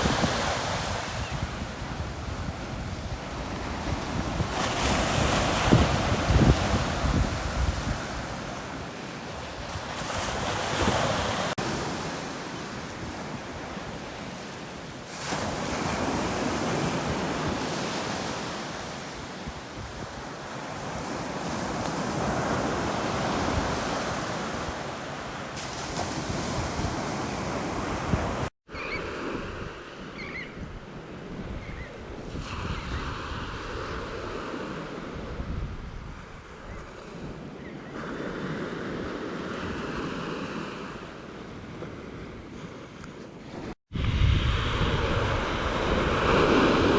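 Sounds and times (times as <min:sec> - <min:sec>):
wind on microphone: 0:00.0 - 0:25.0, 0:25.6 - 0:38.2, 0:41.6 - 0:46.9
ocean waves breaking: 0:00.0 - 0:29.4, 0:38.0 - 0:46.9.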